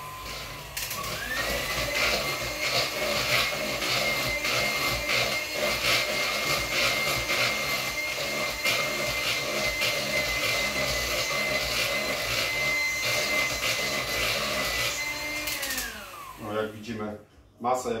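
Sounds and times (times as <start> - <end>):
electric hand mixer whining: 0.0 - 16.8.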